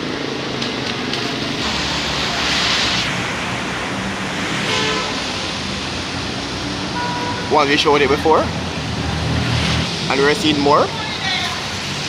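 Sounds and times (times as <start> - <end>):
rainwater gushing and splashing: 0.0 - 12.0.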